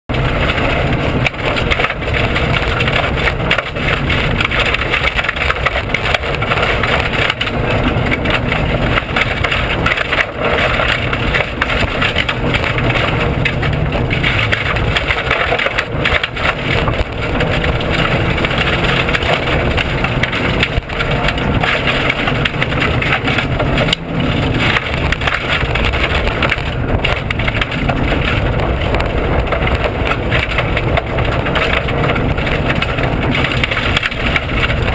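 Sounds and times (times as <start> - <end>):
car engine running: 0.1 - 34.9
road noise: 0.1 - 34.9.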